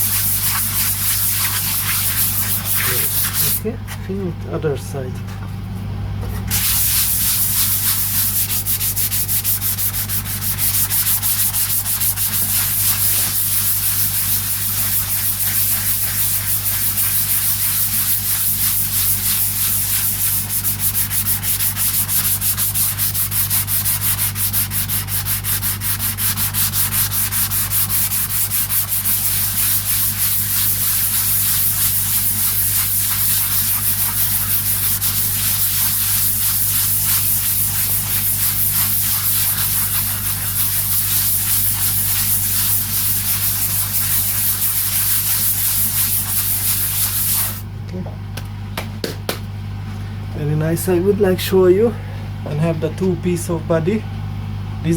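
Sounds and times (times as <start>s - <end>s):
sandpaper rubbing by hand: 0.0s - 3.8s, 6.4s - 47.6s
steady low hum: 0.0s - 54.9s.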